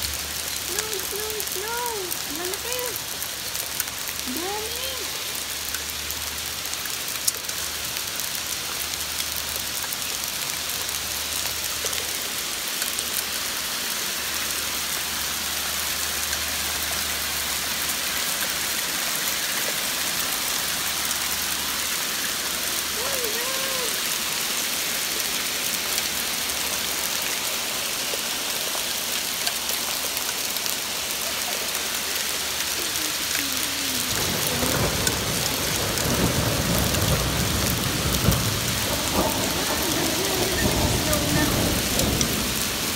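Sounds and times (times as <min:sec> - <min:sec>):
hail and rain falling hard: 0:00.0 - 0:42.9.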